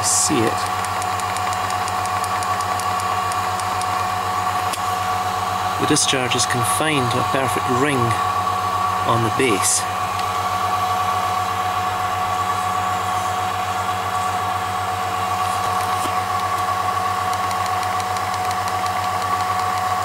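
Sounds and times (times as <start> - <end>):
high whine: 0.0 - 20.0
vacuum pump humming: 0.0 - 20.0.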